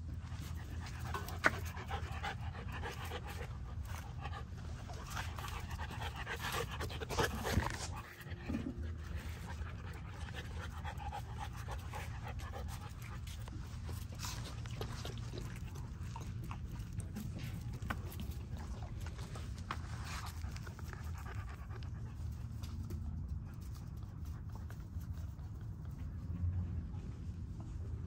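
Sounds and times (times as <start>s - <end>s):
puppy panting: 0.3s - 23.0s.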